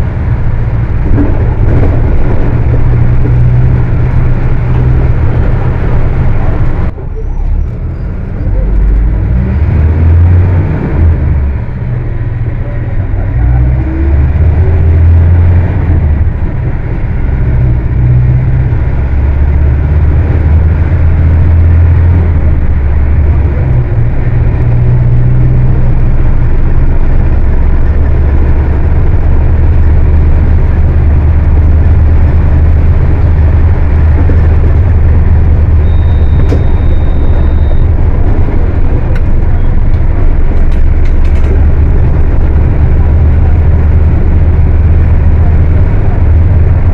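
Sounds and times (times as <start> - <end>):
bus diesel engine droning: 0.0 - 46.9.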